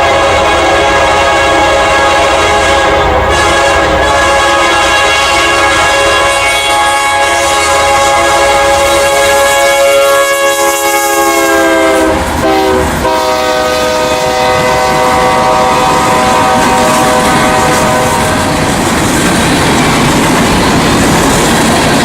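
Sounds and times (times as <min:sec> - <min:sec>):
locomotive air horn chord: 0:00.0 - 0:18.4.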